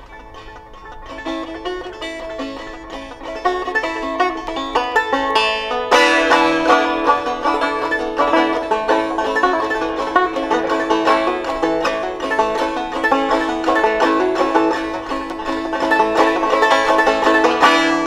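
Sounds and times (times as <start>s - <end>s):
banjo picking: 0.0s - 18.0s
banjo strummed chord: 0.0s - 18.0s.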